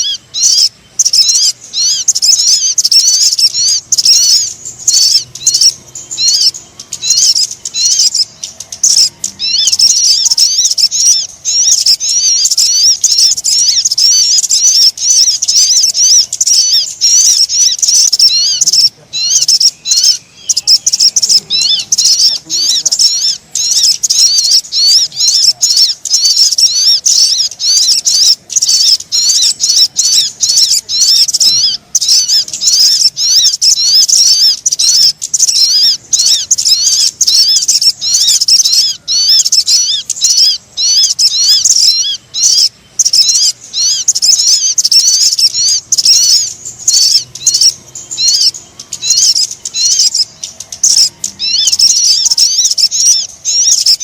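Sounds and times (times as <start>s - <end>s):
rapid high bird chirping: 0.0s - 54.0s.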